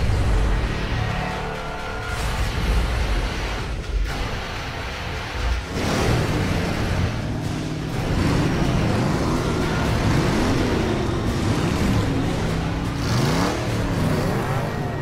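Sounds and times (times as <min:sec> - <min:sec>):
big engines revving: 0:00.0 - 0:15.0.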